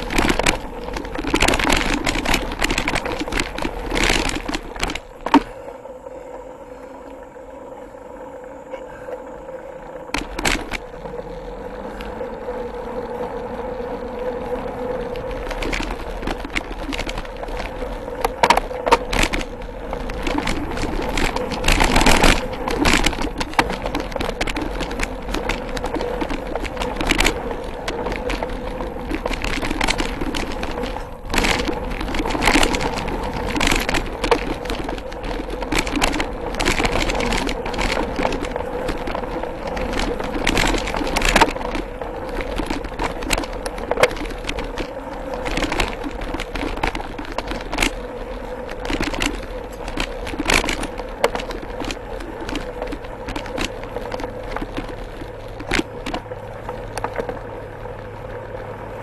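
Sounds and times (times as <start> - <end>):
bike rattling and knocking: 0.0 - 5.8, 9.9 - 59.0
bike tyre noise on dirt: 0.0 - 59.0.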